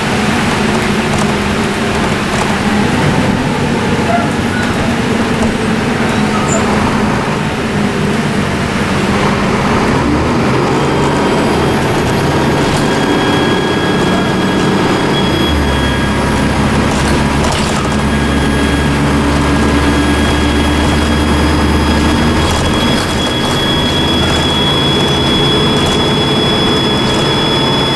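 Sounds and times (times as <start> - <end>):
bus engine running: 0.0 - 27.9
turbocharger whistle: 0.0 - 27.9.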